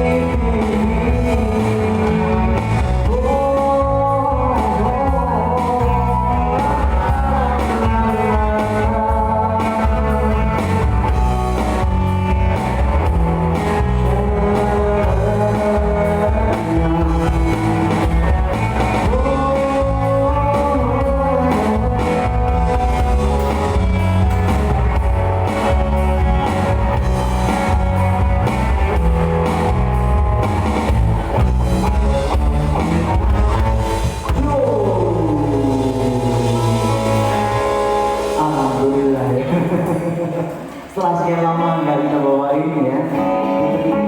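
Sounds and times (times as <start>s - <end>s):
live rock band playing: 0.0s - 41.0s, 43.0s - 44.0s.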